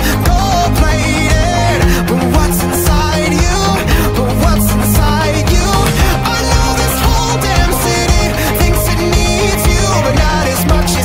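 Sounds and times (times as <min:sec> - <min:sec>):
pop song with steady beat: 0:00.0 - 0:11.0.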